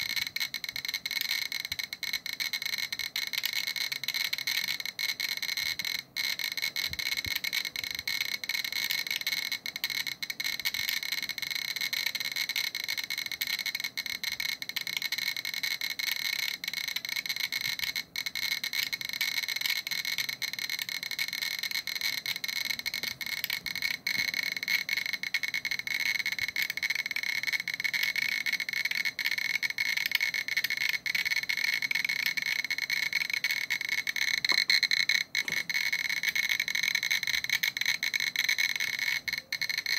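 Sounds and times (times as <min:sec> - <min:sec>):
geiger counter clicking rapidly: 0:00.0 - 0:39.9.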